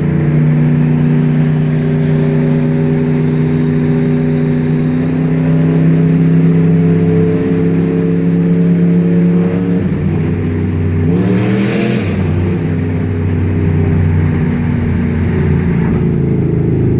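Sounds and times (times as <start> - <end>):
car engine running and revving: 0.0 - 16.9.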